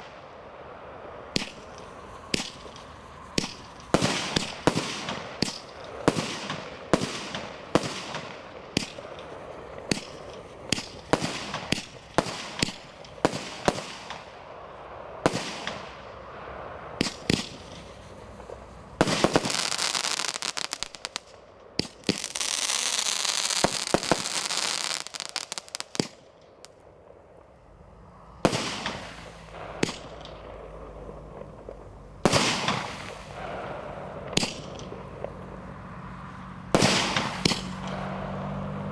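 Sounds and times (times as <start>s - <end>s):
rapid firework crackling: 1.2s - 26.8s, 28.4s - 35.4s, 36.7s - 38.3s
firework shots banging: 1.3s - 26.8s, 28.4s - 35.4s, 36.7s - 38.4s.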